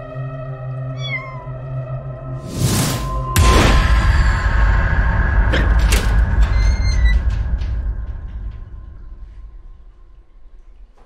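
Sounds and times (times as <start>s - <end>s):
suspenseful low drone score: 0.0s - 11.0s.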